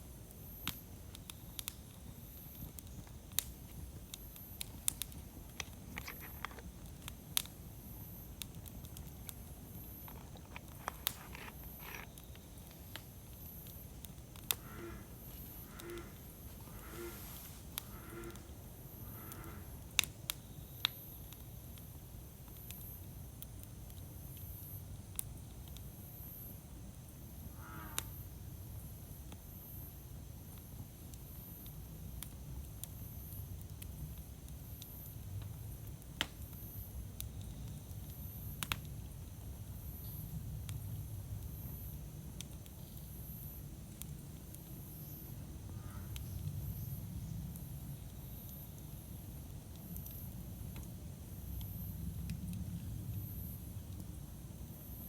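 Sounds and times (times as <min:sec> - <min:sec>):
bonfire flames rumbling: 0:00.0 - 0:55.0
faint wavering hiss: 0:00.0 - 0:55.0
fire crackles and pops: 0:00.0 - 0:55.0.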